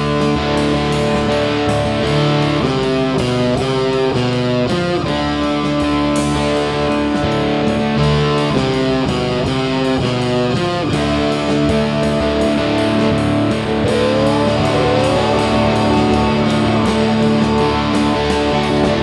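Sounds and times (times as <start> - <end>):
electric guitars: 0.0 - 19.0
steady drumbeat: 0.2 - 19.0.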